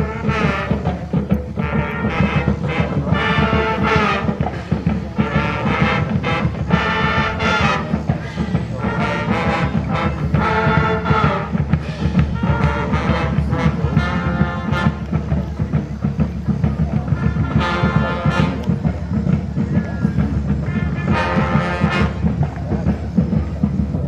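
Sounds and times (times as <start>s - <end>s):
brass band playing: 0.0s - 19.4s, 20.1s - 24.0s.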